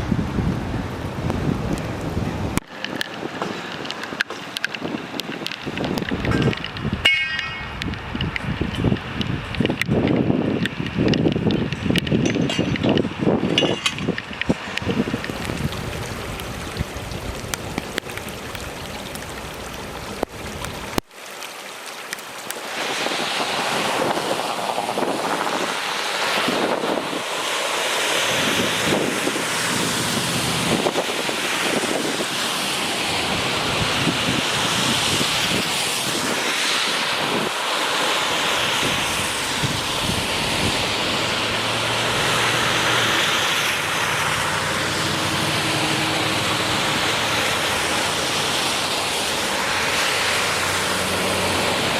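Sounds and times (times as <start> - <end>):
running water rushing: 0.0 - 51.9.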